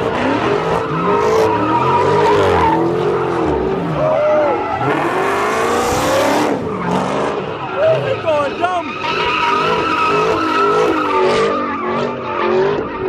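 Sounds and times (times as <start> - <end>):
car engine revving: 0.0 - 13.0
tire squeal: 0.0 - 13.0.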